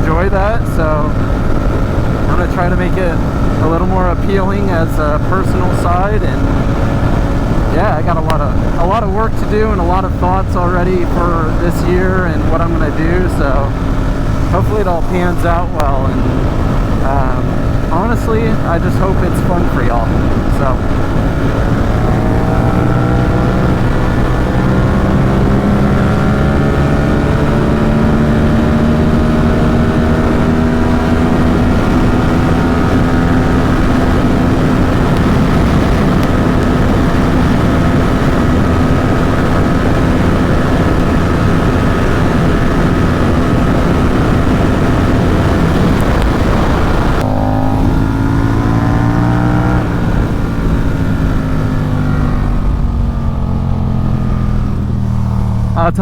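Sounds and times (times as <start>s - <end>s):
motorcycle engine at speed: 0.0s - 56.0s
wind rush: 0.0s - 56.0s.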